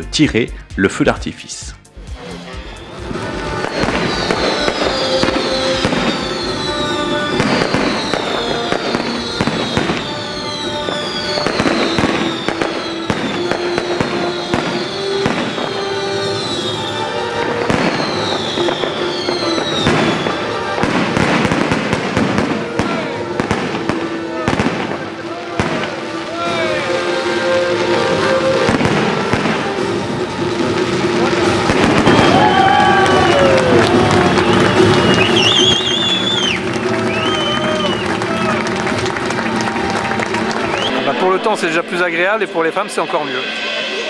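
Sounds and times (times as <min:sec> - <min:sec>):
music playing: 0:00.0 - 0:44.0
fireworks bangs and crackling: 0:02.6 - 0:44.0.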